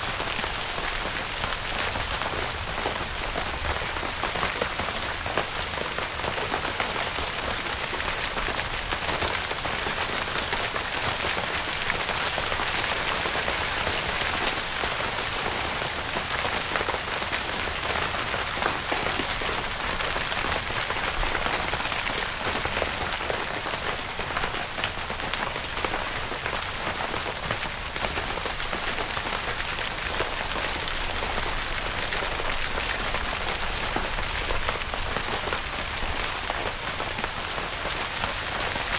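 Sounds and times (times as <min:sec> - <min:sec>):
rain on tent fabric: 0:00.0 - 0:38.9.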